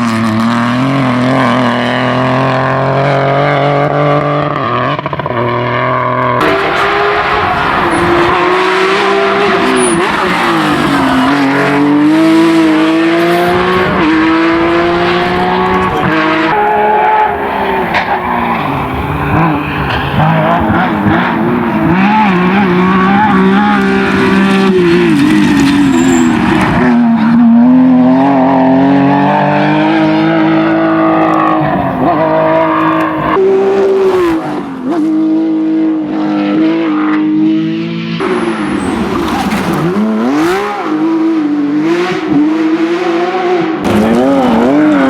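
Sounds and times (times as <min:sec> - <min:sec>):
rally car engine at full load: 0:00.0 - 0:45.0.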